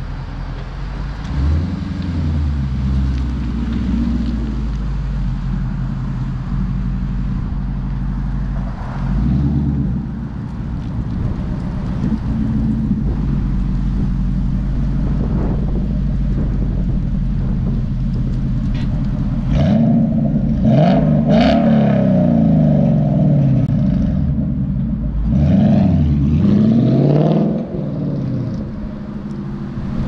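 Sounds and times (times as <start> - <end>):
car engine running: 0.0 - 26.6.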